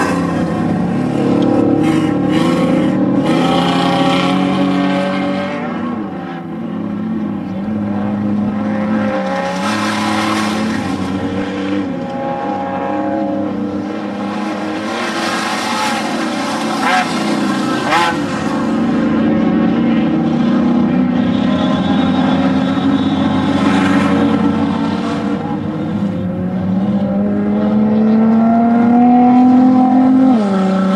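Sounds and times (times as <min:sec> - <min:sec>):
race vehicle engine running hard: 0:00.0 - 0:30.9.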